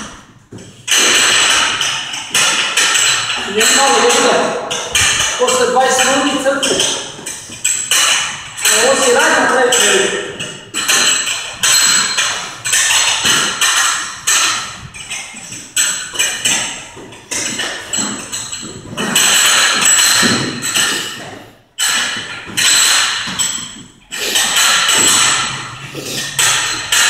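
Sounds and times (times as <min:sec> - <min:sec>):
battle rope slapping floor: 0:00.0 - 0:27.0.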